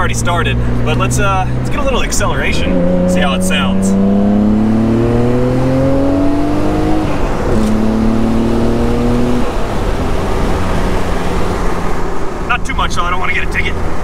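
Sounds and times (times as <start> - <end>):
car engine accelerating: 0.0 - 14.0
road noise: 0.0 - 14.0.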